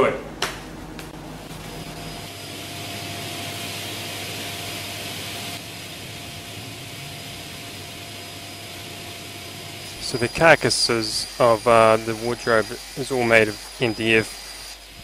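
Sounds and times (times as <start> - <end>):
table saw running: 1.6 - 15.0.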